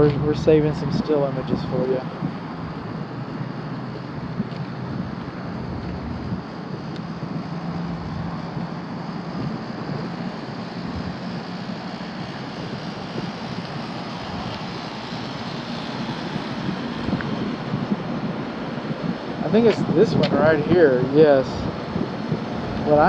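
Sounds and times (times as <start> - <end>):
low hum: 0.0 - 19.6
hvac units rushing drone: 0.0 - 23.0.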